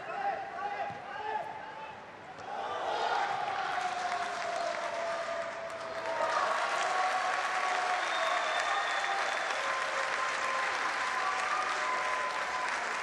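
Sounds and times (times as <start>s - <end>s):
stadium crowd cheering and applauding: 2.5s - 13.0s.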